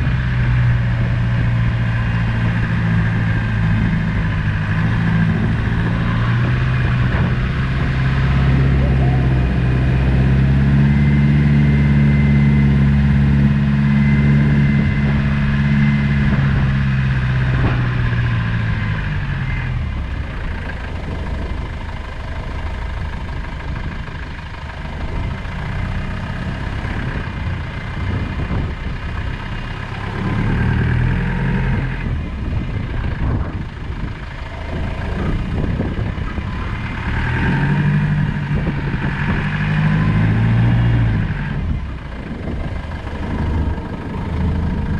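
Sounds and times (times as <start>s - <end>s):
diesel engine running: 0.0s - 44.9s
rough driving noise: 0.0s - 44.9s.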